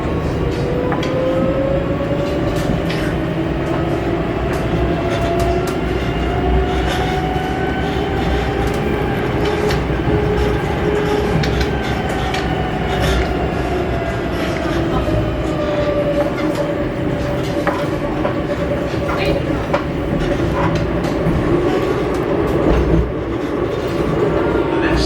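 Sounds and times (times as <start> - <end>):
tram motor whine: 0.0 - 25.0
wheel rumble: 0.0 - 25.0.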